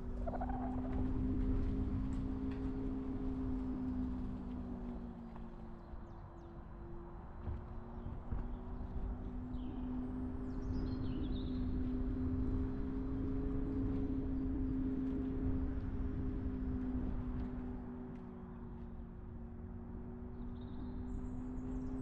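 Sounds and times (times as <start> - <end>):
car engine drone: 0.0 - 22.0
road rumble: 0.0 - 22.0.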